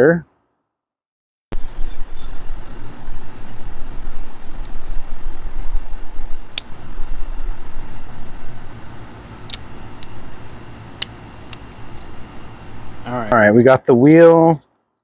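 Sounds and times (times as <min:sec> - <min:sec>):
steady low rumble: 0:01.6 - 0:14.0.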